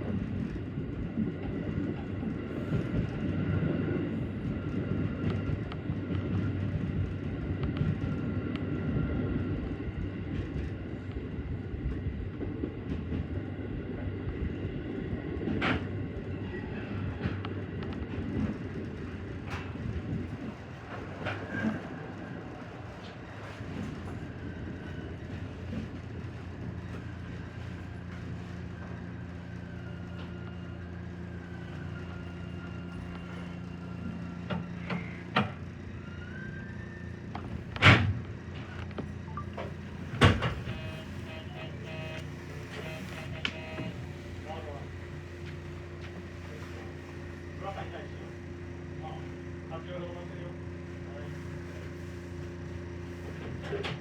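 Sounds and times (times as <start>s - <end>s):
electric train wheels on rails: 0.0s - 48.2s.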